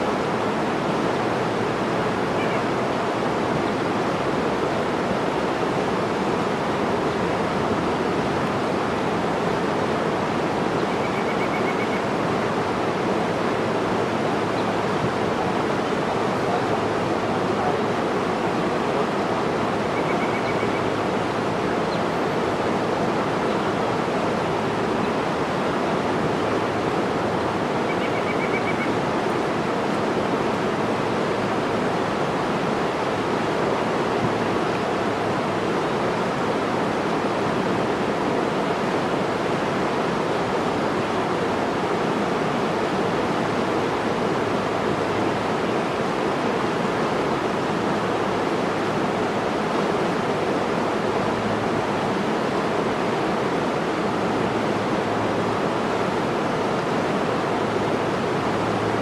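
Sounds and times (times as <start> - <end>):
rushing water roar: 0.0 - 59.0.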